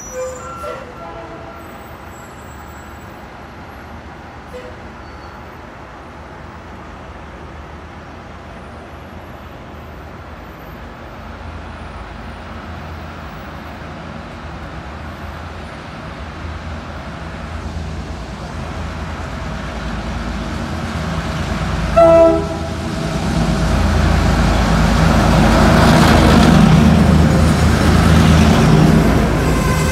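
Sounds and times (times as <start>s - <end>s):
diesel locomotive engine rumble: 0.0s - 29.9s.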